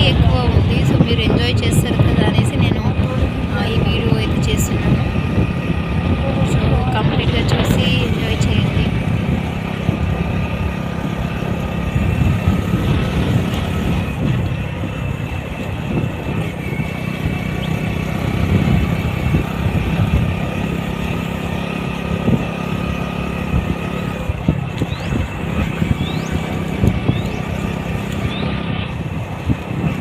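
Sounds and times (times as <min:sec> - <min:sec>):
engine rumble: 0:00.0 - 0:30.0.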